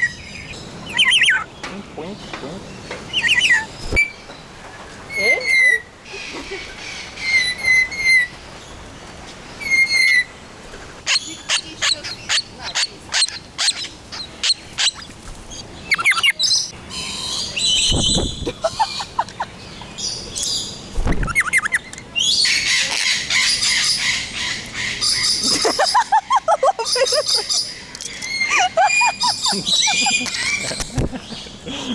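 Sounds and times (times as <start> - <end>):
parrots calling and screeching: 0.0 - 1.6, 2.2 - 4.2, 5.1 - 8.3, 9.6 - 30.9.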